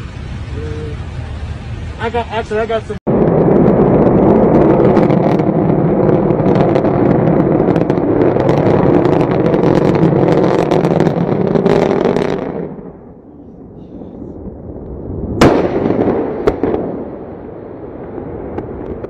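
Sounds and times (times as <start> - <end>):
rocket engine roar: 0.0 - 19.0.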